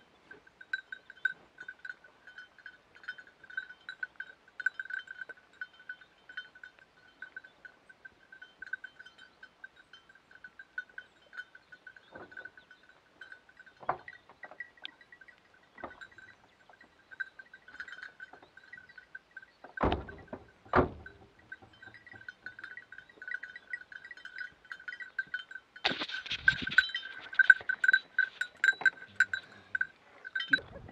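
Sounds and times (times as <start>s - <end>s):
small bells jingling: 0.0s - 30.9s.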